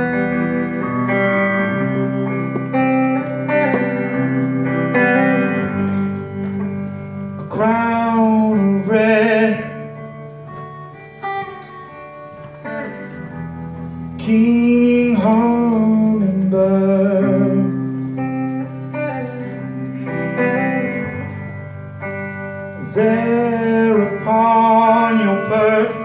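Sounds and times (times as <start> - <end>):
acoustic guitars playing: 0.0 - 26.0.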